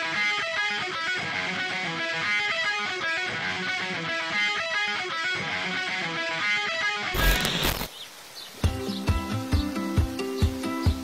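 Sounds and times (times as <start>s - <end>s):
guitar background music: 0.0s - 7.9s, 8.6s - 11.0s.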